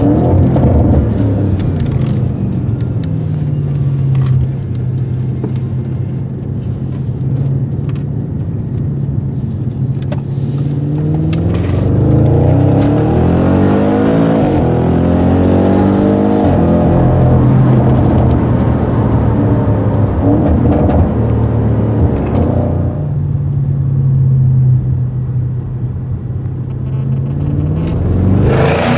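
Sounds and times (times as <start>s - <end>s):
car engine accelerating: 0.0s - 8.8s, 10.1s - 28.9s.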